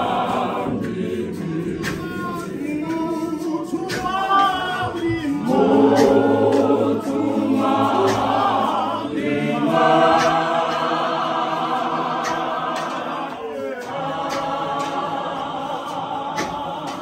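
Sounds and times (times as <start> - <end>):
congregation singing a hymn: 0.0 - 17.0
hand claps: 0.0 - 17.0.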